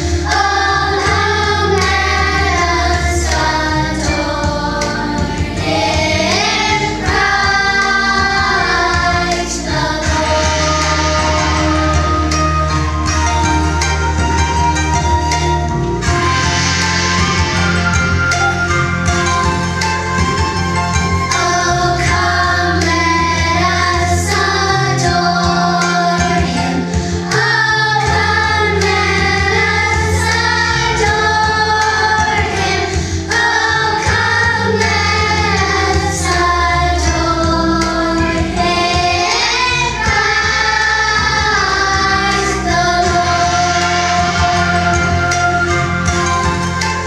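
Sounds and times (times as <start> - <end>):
children singing: 0.0 - 13.7, 21.2 - 46.8
instrumental accompaniment with bass: 0.0 - 47.0.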